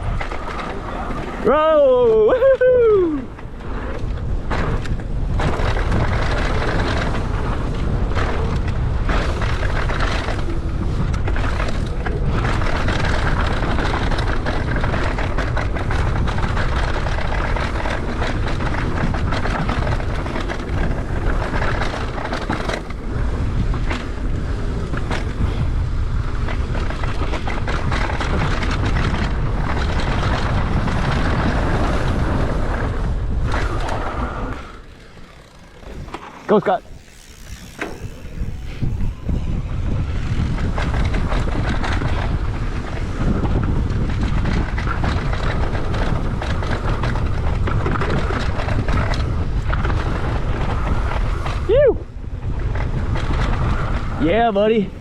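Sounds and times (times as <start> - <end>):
bike rattles and knocks: 0.0 - 55.0
bike tyres rolling over dirt: 0.0 - 55.0
wind buffeting microphone: 0.0 - 55.0.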